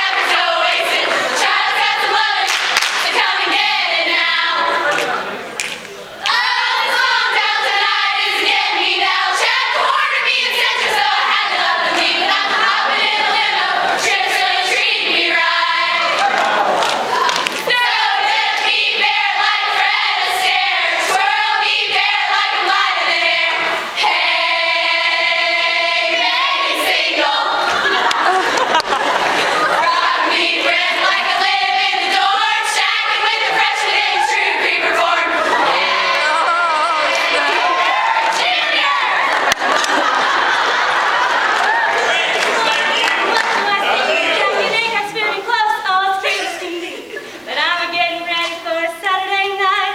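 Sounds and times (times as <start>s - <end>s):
women's choir singing: 0.0s - 5.3s, 6.2s - 49.9s.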